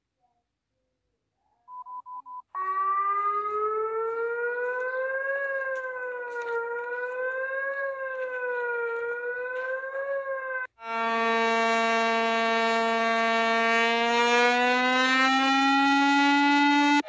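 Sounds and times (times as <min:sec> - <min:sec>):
emergency alert siren: 0:02.5 - 0:17.0.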